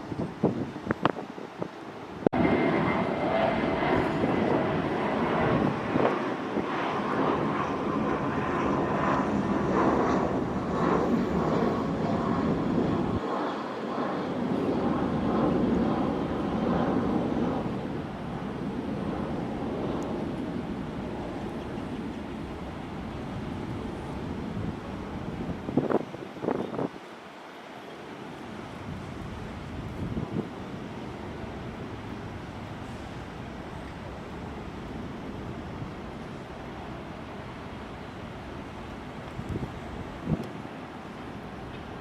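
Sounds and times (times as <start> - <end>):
jet engines roaring: 0.1 - 42.0.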